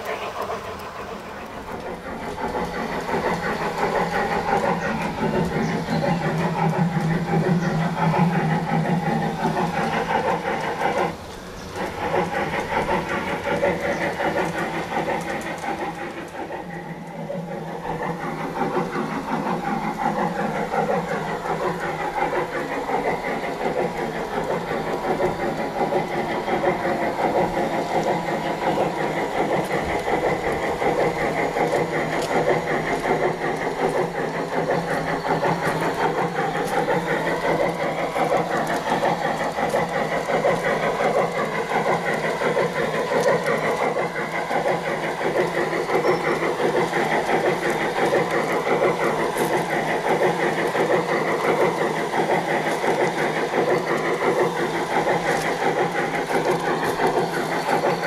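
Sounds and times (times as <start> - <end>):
model trains whining: 0.0 - 58.0.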